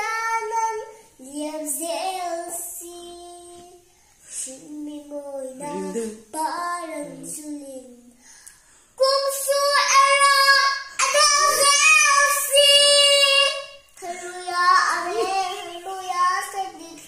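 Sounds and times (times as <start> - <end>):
girl singing: 0.0 - 17.0.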